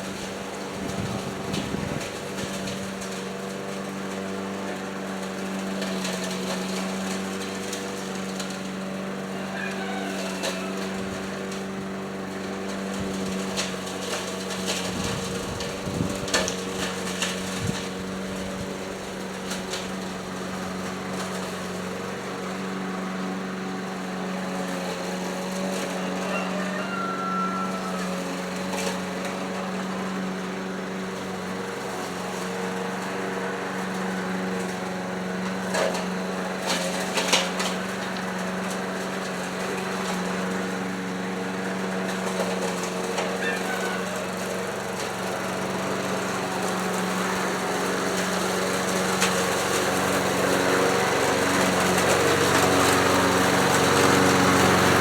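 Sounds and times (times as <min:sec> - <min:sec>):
push mower engine running: 0:00.0 - 0:55.0.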